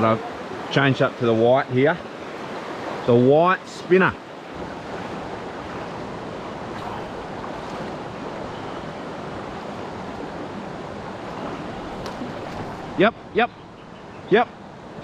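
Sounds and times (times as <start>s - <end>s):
creek water running over stones: 0.0s - 13.5s.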